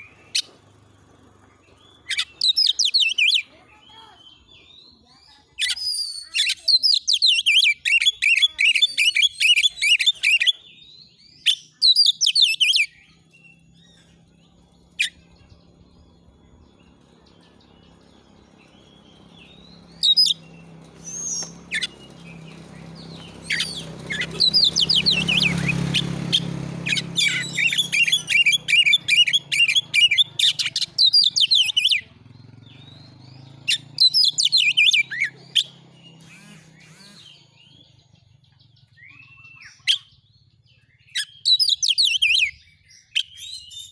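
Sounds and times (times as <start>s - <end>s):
bird singing trills and warbles: 0.0s - 43.9s.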